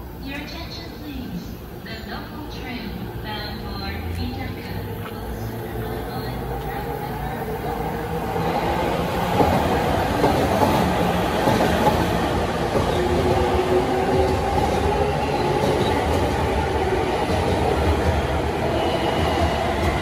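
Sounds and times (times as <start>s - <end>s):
rumble of wheels on rail: 0.0s - 20.0s.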